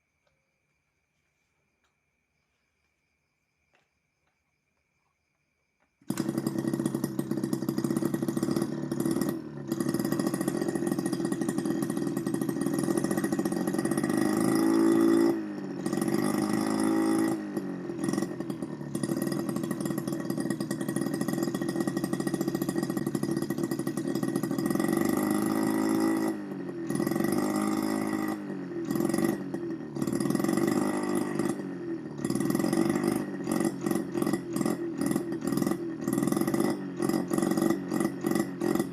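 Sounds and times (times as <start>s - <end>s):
miniature two-stroke engine buzzing: 6.0s - 38.9s.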